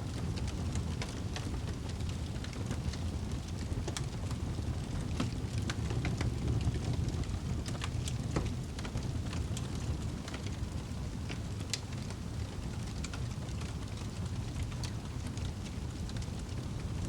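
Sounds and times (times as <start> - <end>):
fire crackling and popping: 0.0 - 17.0
fire flames roaring: 0.0 - 17.0.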